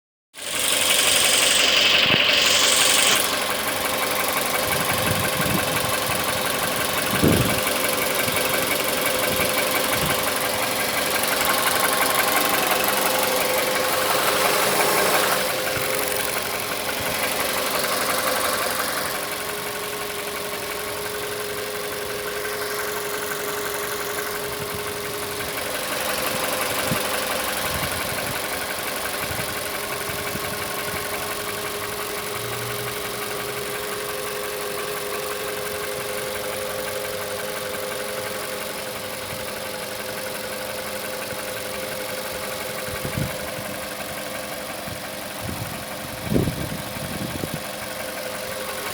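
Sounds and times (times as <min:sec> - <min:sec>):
engine running with a knock: 0:00.4 - 0:48.9.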